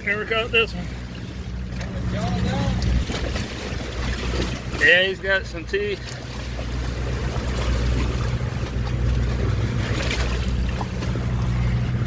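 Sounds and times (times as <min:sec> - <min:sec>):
boat engine humming: 0:00.0 - 0:12.0
wind and water noise: 0:00.0 - 0:12.0.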